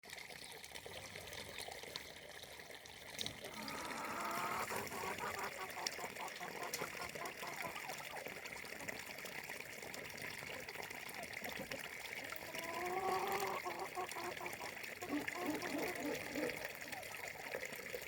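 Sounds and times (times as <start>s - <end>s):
stream water running: 0.0s - 18.0s.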